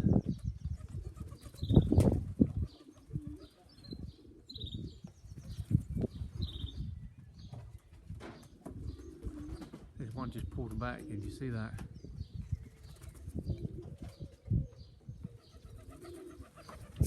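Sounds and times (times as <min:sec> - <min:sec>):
pigeons cooing: 0:00.0 - 0:07.0, 0:07.7 - 0:17.0
small birds chirping: 0:00.0 - 0:17.0.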